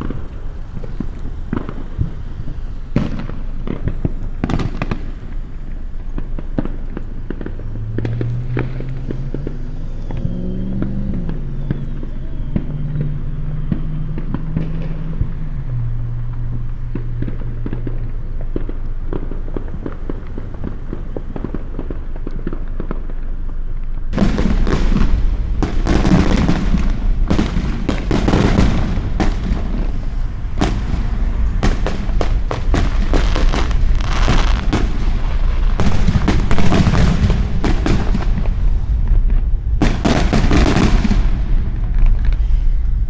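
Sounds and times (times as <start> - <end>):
fireworks popping and crackling: 0.0 - 43.0
loud firework booms: 0.0 - 43.0.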